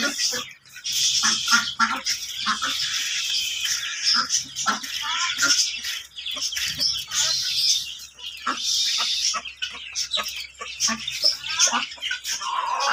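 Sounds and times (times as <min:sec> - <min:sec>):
chickens and ducks clucking: 0:00.0 - 0:12.9
chicks cheeping: 0:00.0 - 0:12.9.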